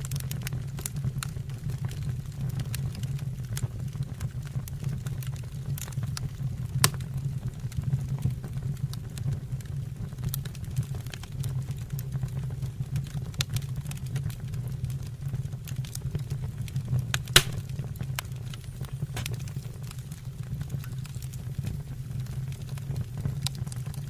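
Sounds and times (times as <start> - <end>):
fire crackles and pops: 0.0 - 24.0
fire low rumble: 0.0 - 24.0.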